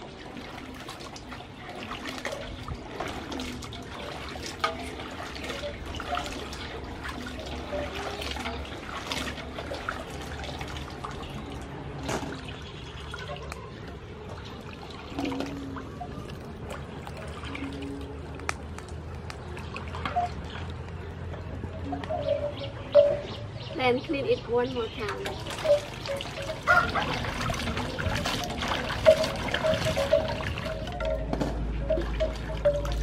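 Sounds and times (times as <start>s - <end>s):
water splashing and sloshing: 0.0s - 33.0s.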